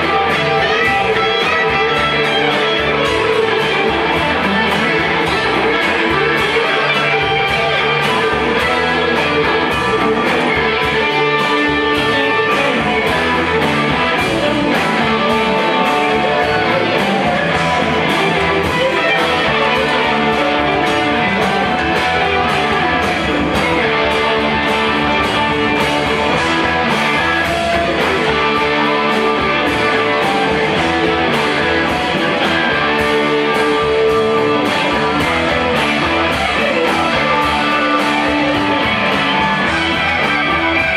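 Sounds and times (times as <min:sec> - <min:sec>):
drum kit beat: 0:00.0 - 0:40.9
electric guitars: 0:00.0 - 0:40.9
keyboard: 0:00.0 - 0:40.9.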